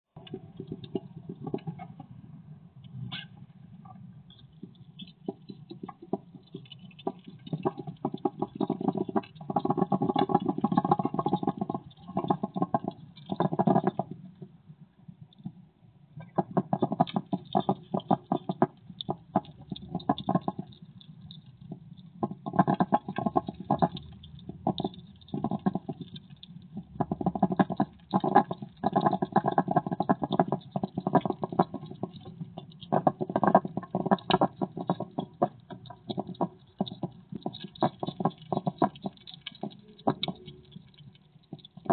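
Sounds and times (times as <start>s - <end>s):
hedgehog chewing and crunching: 4.3s - 14.2s, 16.2s - 41.9s.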